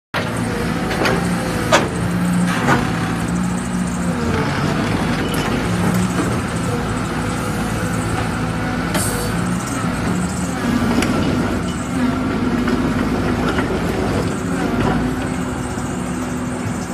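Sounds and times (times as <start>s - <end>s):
excavator diesel engine running: 0.2s - 16.9s.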